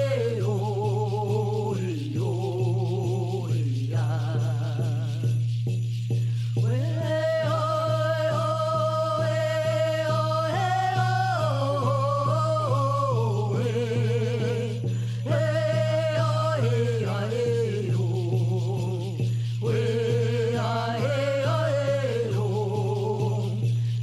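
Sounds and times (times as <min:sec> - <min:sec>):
person singing long wavering notes: 0:00.0 - 0:05.2, 0:06.8 - 0:23.6.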